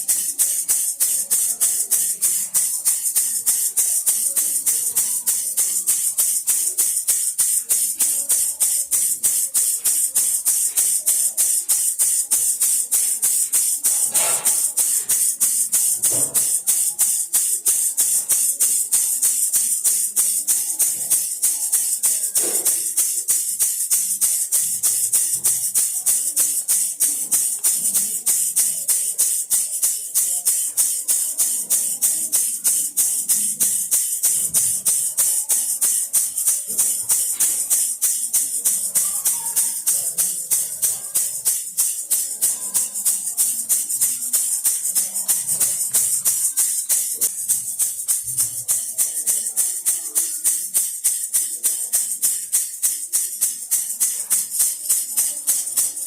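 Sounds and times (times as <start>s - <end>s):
baby rattle shaking: 0.0s - 56.0s.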